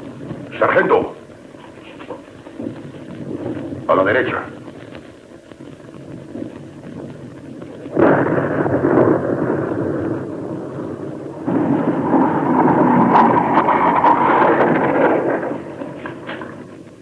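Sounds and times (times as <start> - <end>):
artillery explosions rumbling: 0.0 - 17.0.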